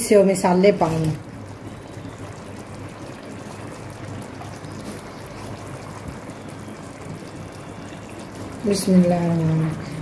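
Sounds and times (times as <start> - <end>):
food bubbling in a pan: 0.0 - 10.0.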